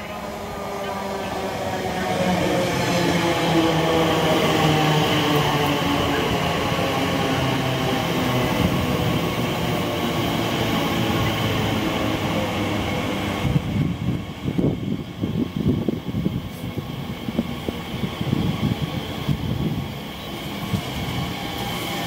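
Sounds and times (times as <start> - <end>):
electric train hum: 0.0 - 22.0
wind buffeting microphone: 0.3 - 21.6.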